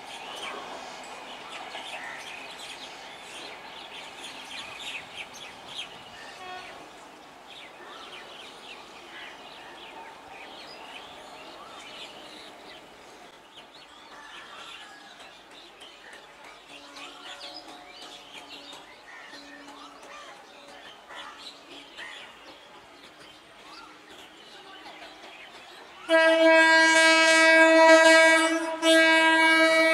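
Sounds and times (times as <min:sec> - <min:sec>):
steady outdoor background hiss: 0:00.0 - 0:29.9.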